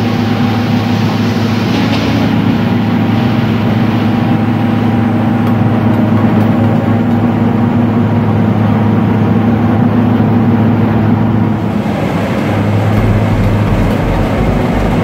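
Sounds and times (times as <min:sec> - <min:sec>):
loud mechanical drone: 0:00.0 - 0:15.0.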